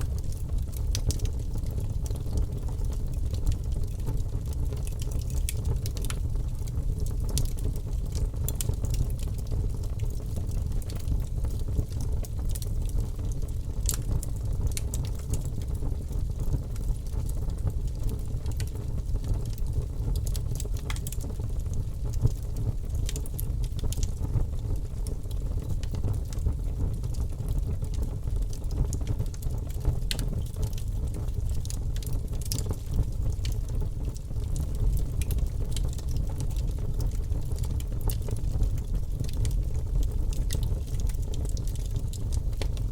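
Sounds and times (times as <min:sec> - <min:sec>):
bonfire rumbling: 0:00.0 - 0:42.9
burning wood crackling and popping: 0:00.0 - 0:42.9.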